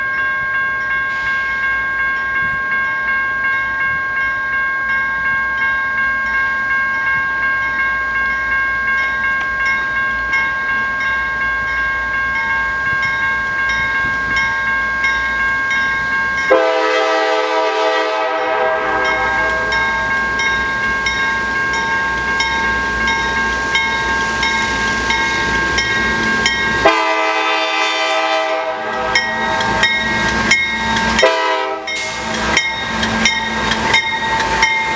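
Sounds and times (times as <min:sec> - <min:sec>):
crossing bell ringing: 0:00.0 - 0:34.9.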